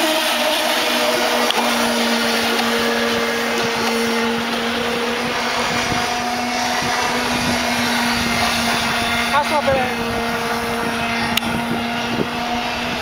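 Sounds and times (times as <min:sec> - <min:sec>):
model boat motor whine: 0:00.0 - 0:13.0.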